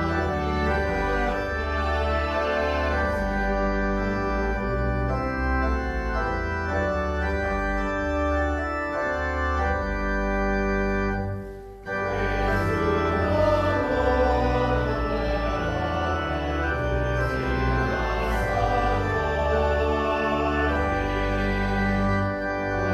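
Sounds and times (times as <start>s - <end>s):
church organ chords: 0.0s - 22.9s.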